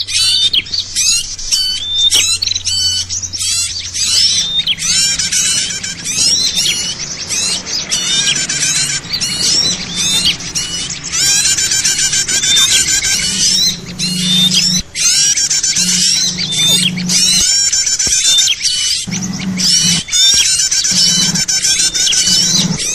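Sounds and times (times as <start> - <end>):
low steady hum: 0.0 - 22.9
small birds chirping chorus: 0.0 - 22.9.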